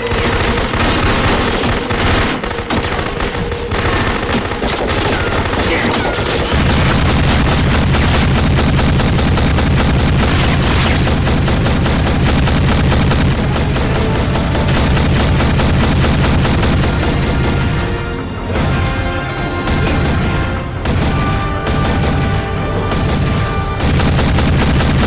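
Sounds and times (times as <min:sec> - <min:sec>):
rapid shotgun gunfire: 0:00.0 - 0:17.9, 0:19.6 - 0:25.0
film score music: 0:00.0 - 0:25.0.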